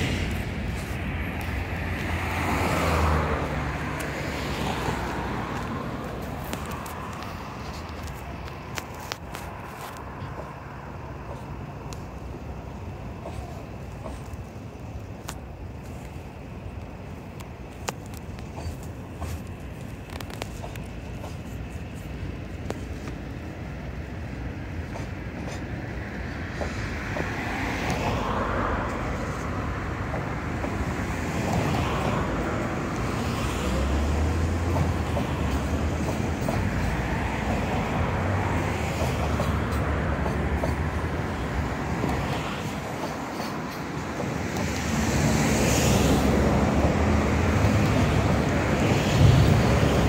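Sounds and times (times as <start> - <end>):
train wagons rolling on rails: 0.0 - 50.0.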